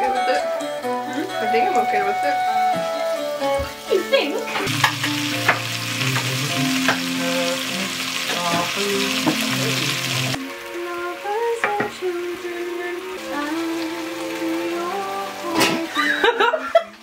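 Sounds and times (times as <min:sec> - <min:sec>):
background music: 0:00.0 - 0:17.0
meat sizzling in a frying pan: 0:01.5 - 0:16.4.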